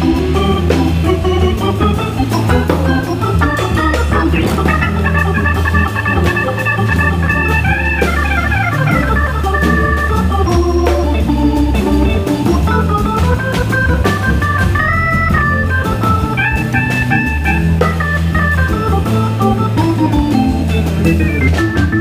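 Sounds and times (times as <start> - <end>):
drums keeping time: 0.0 - 22.0
low bass notes: 0.0 - 22.0
organ playing jazz solo: 0.0 - 22.0.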